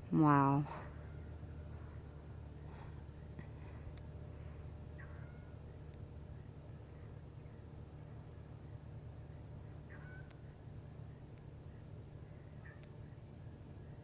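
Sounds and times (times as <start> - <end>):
insects trilling: 0.0 - 14.0
low background hum: 0.0 - 14.0.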